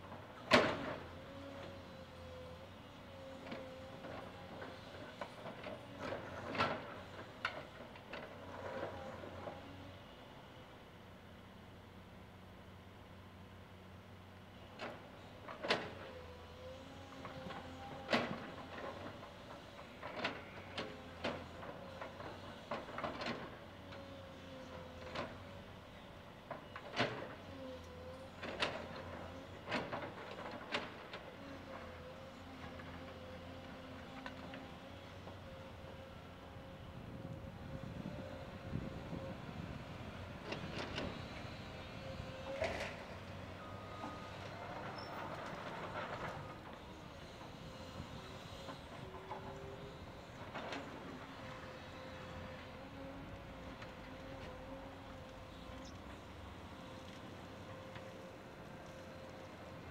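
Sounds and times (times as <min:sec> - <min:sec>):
excavator engine hum: 0:00.0 - 0:59.9.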